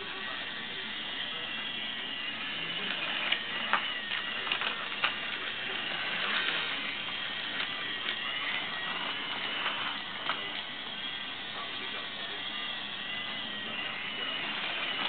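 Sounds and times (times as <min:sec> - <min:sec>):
toy train motor whirring: 0:00.0 - 0:15.0.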